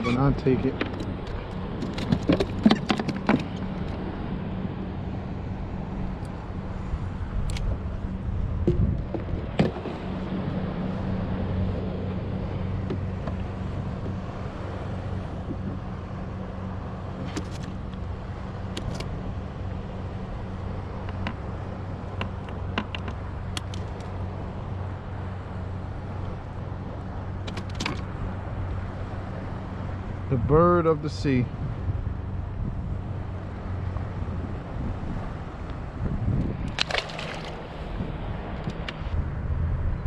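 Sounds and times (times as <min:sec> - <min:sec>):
low motor hum: 0:00.0 - 0:40.0.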